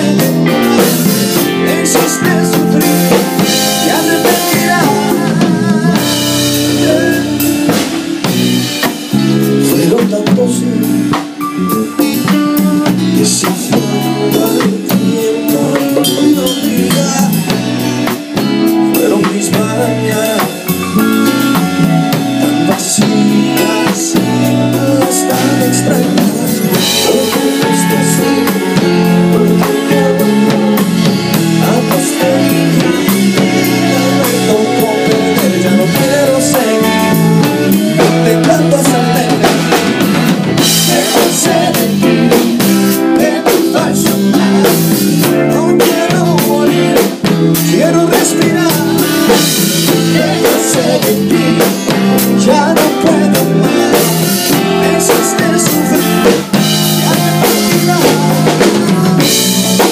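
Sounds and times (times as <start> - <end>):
bass: 0.0 - 59.9
drum kit: 0.0 - 59.9
keyboard: 0.0 - 59.9.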